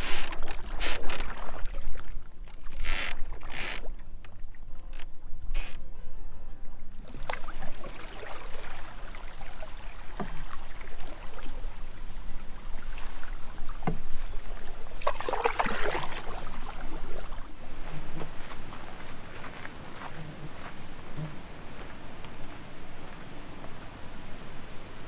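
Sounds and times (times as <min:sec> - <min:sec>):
paddle strokes swishing in water: 0:00.0 - 0:04.6, 0:07.0 - 0:23.4.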